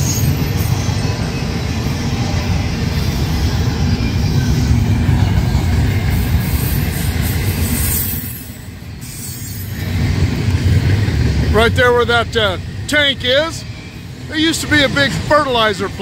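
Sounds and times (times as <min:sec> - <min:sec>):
train wheels rumbling and rattling: 0:00.0 - 0:16.0.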